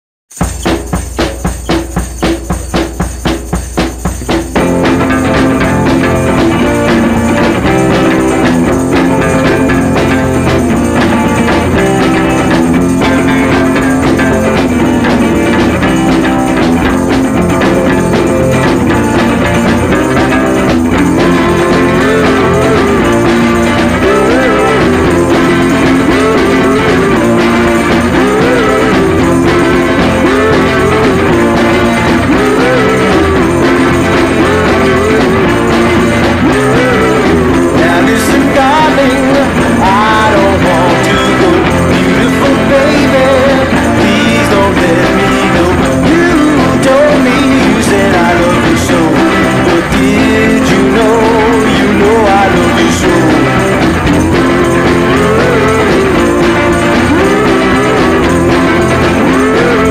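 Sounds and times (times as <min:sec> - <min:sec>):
music with steady beat: 0:00.3 - 0:59.9.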